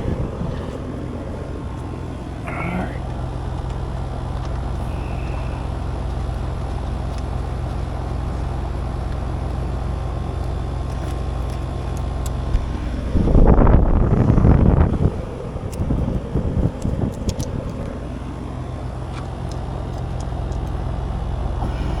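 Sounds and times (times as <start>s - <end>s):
air conditioner hum: 0.0s - 22.0s
faint steady whine: 0.0s - 22.0s
loud irregular rumble: 0.0s - 22.0s.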